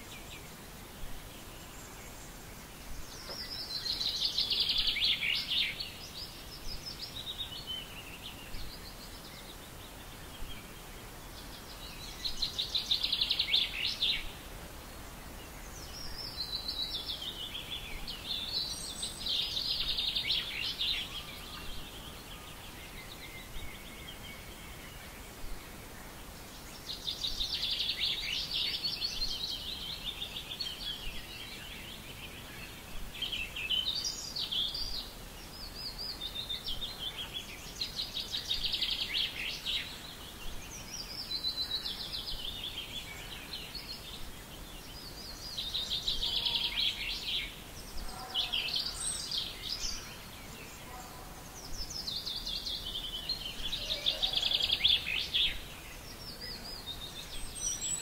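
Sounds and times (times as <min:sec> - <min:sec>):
faint background noise: 0:00.0 - 0:58.0
songbird twittering: 0:01.3 - 0:14.4, 0:15.4 - 0:25.2, 0:26.4 - 0:58.0.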